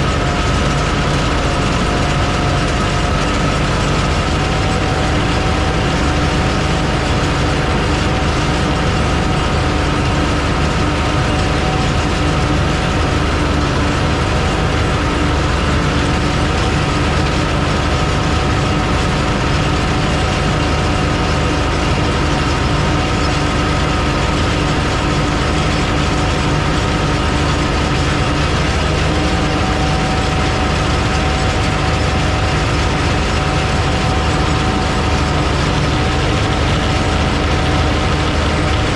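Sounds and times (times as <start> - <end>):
baler machinery turning: 0.0 - 38.9
steady machine whines: 0.0 - 38.9
tractor engine running: 0.0 - 38.9.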